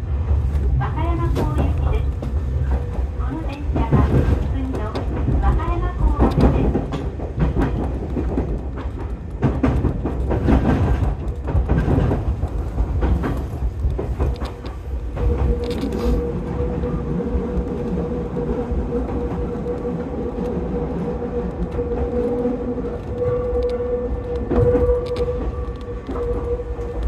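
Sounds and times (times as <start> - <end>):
train steady hum: 0.0 - 27.0
train wheels clattering: 0.0 - 27.0.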